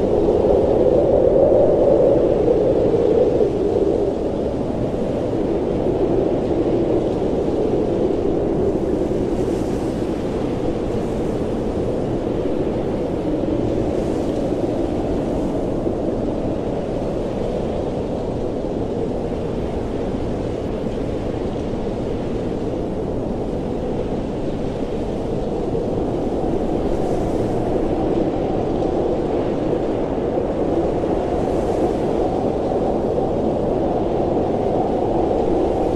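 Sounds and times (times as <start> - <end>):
blizzard wind rushing: 0.0 - 35.9.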